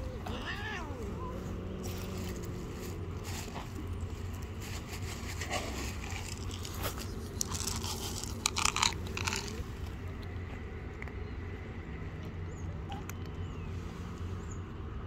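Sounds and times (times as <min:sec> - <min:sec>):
cats crunching dry kibble: 0:00.1 - 0:13.5.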